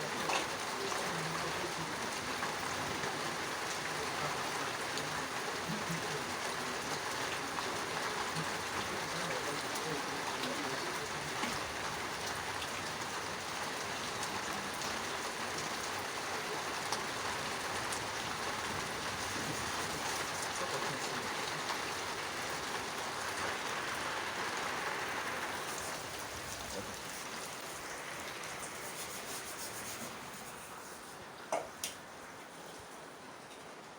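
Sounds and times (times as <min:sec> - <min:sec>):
heavy rain falling: 0:00.0 - 0:33.9
sharp raindrop ticks: 0:00.1 - 0:30.6, 0:31.5 - 0:32.1.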